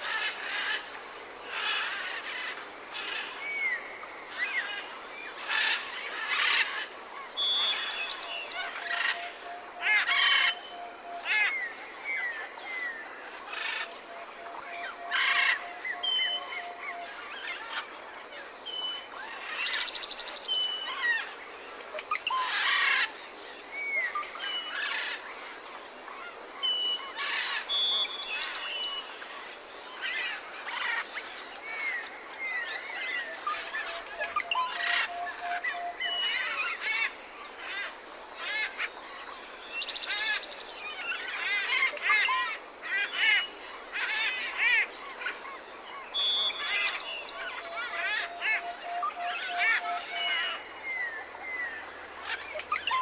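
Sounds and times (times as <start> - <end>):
birds chirping and twittering: 0.0 - 53.0.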